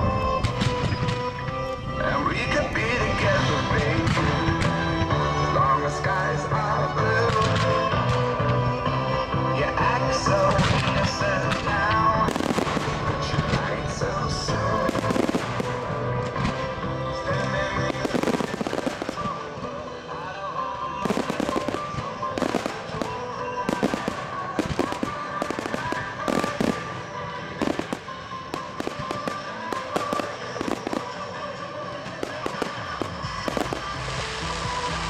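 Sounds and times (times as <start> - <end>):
fireworks bursting and crackling: 0.0 - 8.7, 10.0 - 35.0
music soundtrack: 0.0 - 35.0.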